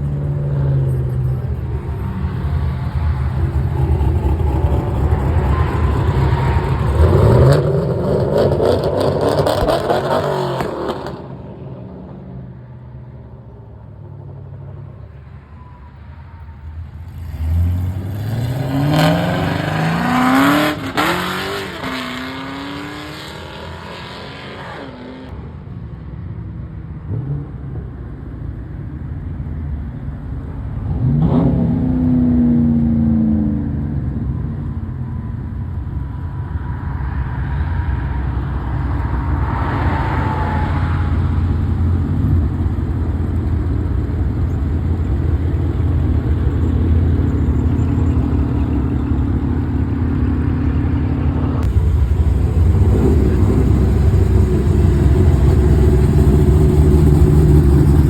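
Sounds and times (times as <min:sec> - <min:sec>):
car engines revving: 0:00.0 - 0:12.4, 0:17.0 - 0:25.4, 0:30.3 - 0:35.2, 0:35.8 - 0:58.0.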